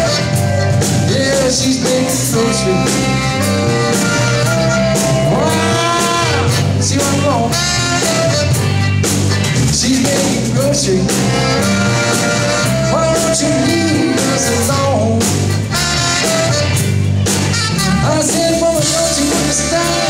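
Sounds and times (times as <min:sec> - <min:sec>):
accordion: 0:00.0 - 0:20.0
drum kit: 0:00.0 - 0:20.0
electric guitar: 0:00.0 - 0:20.0
live band playing: 0:00.0 - 0:20.0
saxophone: 0:00.0 - 0:20.0.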